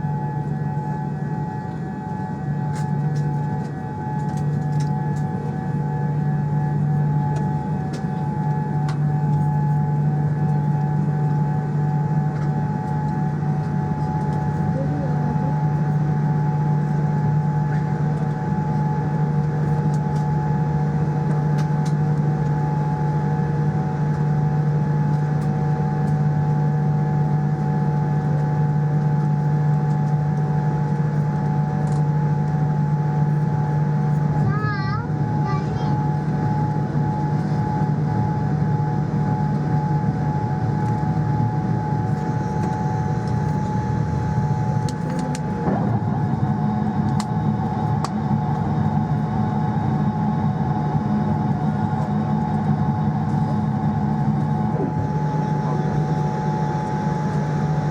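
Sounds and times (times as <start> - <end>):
airliner cabin drone: 0.0 - 57.9.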